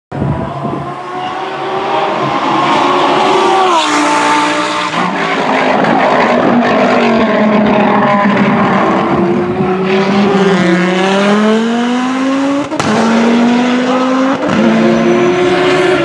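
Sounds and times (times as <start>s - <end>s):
race car engine passing by: 0.3s - 16.0s.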